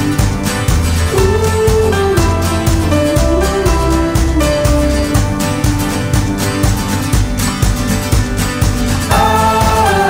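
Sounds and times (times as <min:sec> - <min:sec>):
song with steady beat: 0:00.0 - 0:10.0.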